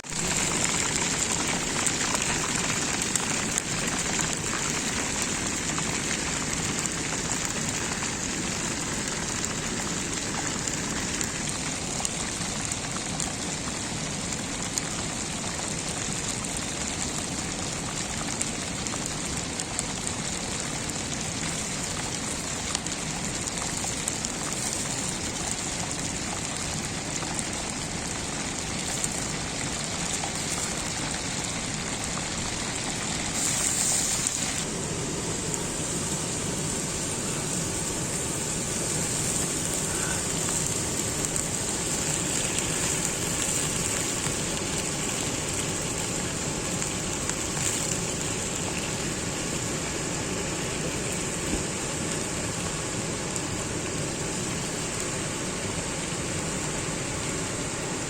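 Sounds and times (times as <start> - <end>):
hot oil sizzling and crackling: 0.0 - 58.0.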